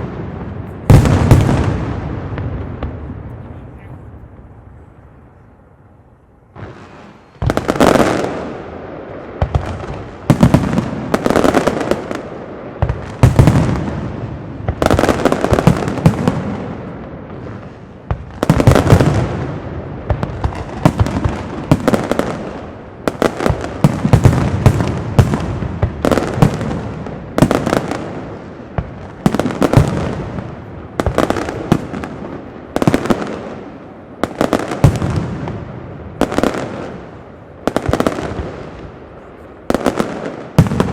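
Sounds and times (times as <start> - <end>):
fireworks bursting with loud bangs: 0.0 - 5.2, 6.5 - 40.9
fireworks crackle and echo: 0.0 - 40.9.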